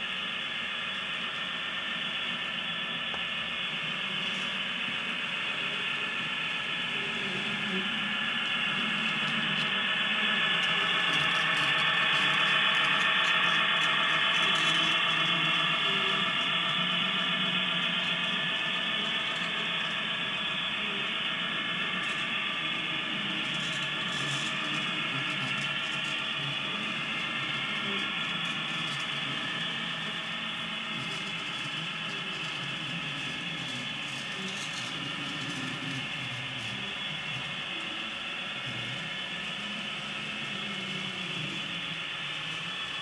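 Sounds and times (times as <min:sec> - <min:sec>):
model train motors whirring: 0:00.0 - 0:43.0.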